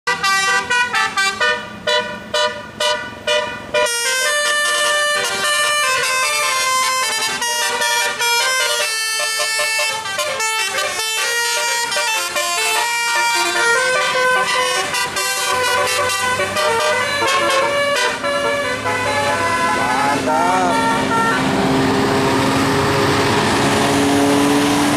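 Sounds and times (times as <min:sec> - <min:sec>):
multi-tone bus horn melody: 0:00.0 - 0:24.9.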